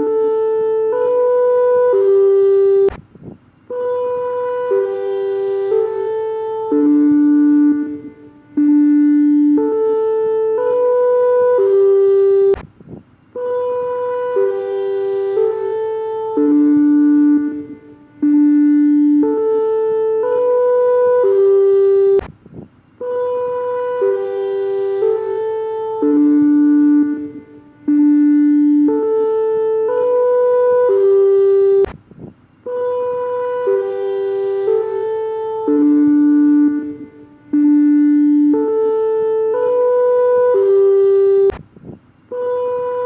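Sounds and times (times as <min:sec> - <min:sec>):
horn-like alarm melody: 0:00.0 - 0:02.9, 0:03.7 - 0:12.6, 0:13.4 - 0:31.9, 0:32.6 - 0:43.0.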